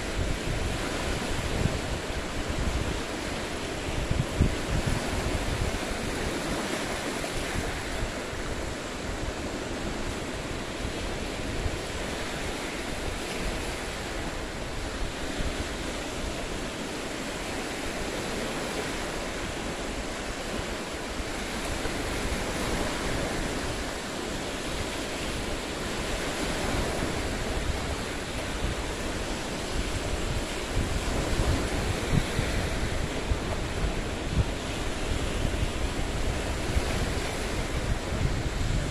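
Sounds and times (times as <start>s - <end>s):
waves washing over rocky shore: 0.0s - 38.9s
wind on microphone: 0.0s - 38.9s.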